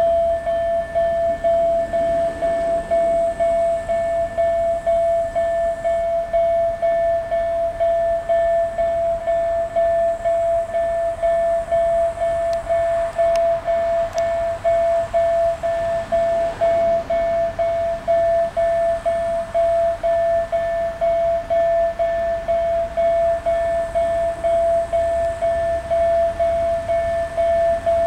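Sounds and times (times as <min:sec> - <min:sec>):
crossing signal bell ringing: 0:00.0 - 0:28.0.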